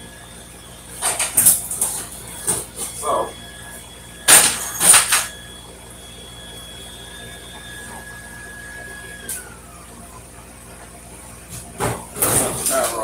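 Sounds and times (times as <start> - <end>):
high machine whine: 0.0 - 13.0.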